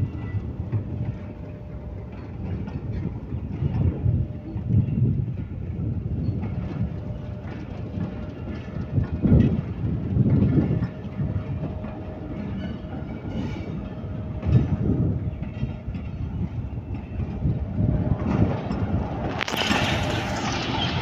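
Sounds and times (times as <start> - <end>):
rumble of train wheels on rails: 0.0 - 21.0
wheels clacking over rail joints: 0.0 - 21.0.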